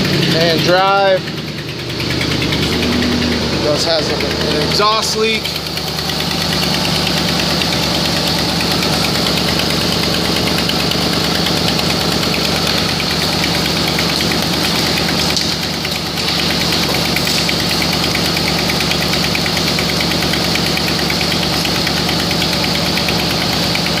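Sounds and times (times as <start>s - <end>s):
car engine idling: 0.0s - 24.0s
exhaust leak puffing: 0.0s - 24.0s.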